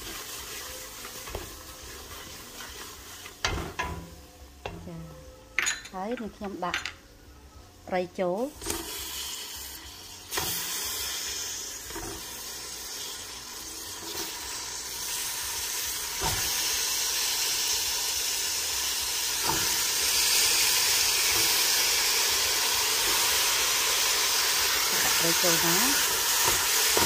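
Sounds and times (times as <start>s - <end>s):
fish sizzling in a pot: 0.0s - 4.6s, 8.1s - 27.0s.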